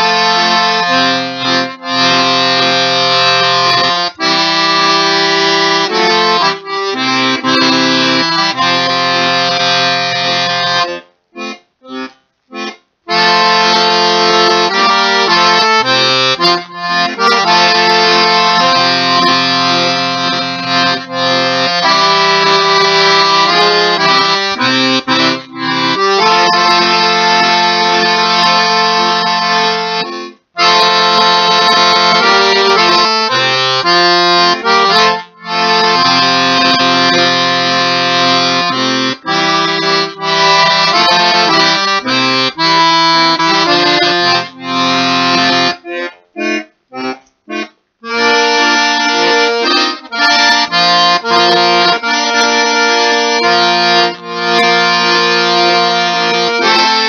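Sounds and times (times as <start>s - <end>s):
accordion playing a slow ballad: 0.0s - 57.0s.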